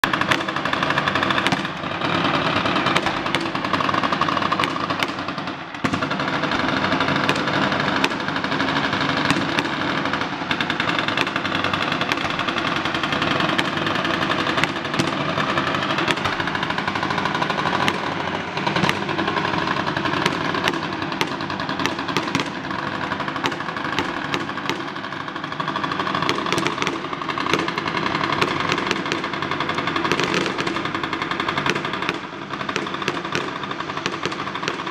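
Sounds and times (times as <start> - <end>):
fireworks popping and crackling: 0.0 - 34.9
sharp fireworks cracks: 0.0 - 34.9.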